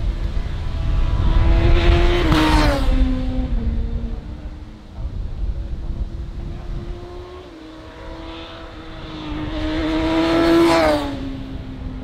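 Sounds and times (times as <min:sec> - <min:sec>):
motorcycle passing at high revs: 0:00.0 - 0:04.9, 0:06.0 - 0:12.0.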